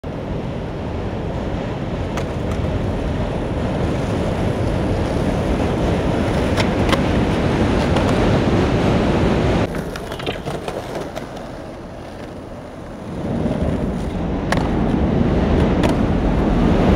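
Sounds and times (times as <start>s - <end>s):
skateboard wheels rolling on pavement: 0.0s - 16.9s.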